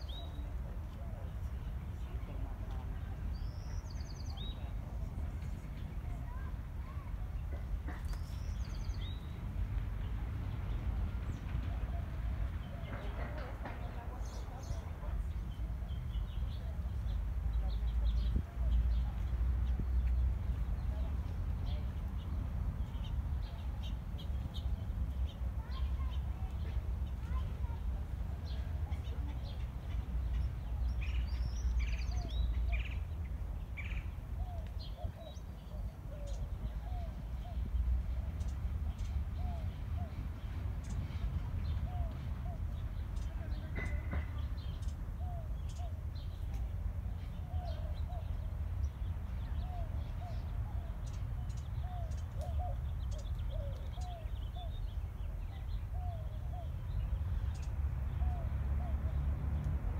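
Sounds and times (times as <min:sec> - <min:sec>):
small birds chirping: 0:00.0 - 0:59.8.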